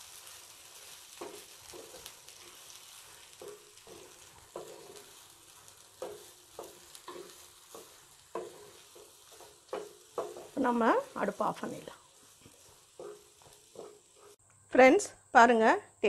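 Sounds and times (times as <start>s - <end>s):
spatula scraping frying pan: 0.0s - 14.4s
faint sizzle: 0.0s - 16.0s.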